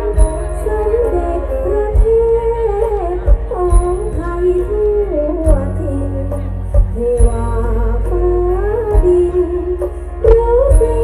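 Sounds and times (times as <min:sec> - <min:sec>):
live band playing outdoors: 0:00.0 - 0:11.0
person singing: 0:00.0 - 0:11.0.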